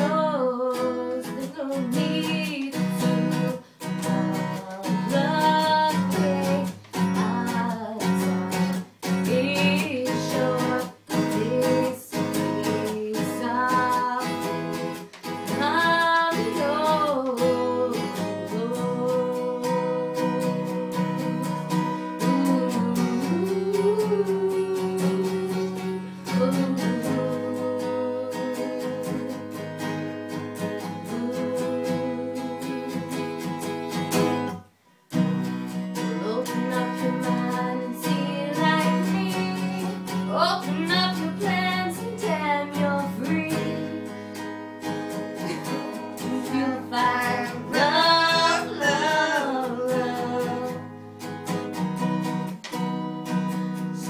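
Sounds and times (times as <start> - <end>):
woman singing: 0.0 - 34.6, 36.0 - 44.2, 45.4 - 51.0
acoustic guitar strumming: 0.0 - 54.0.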